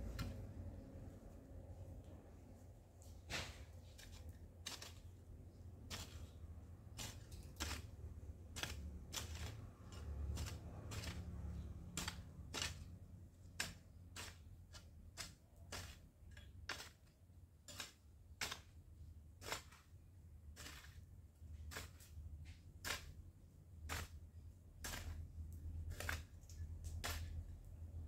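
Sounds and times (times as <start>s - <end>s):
hoe striking hard soil: 3.3s - 23.2s, 23.8s - 27.6s.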